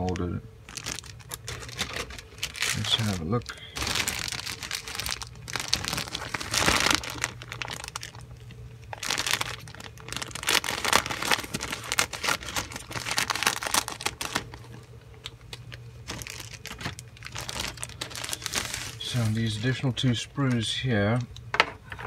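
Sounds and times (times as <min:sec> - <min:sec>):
plastic bag crinkling: 0:00.0 - 0:21.4.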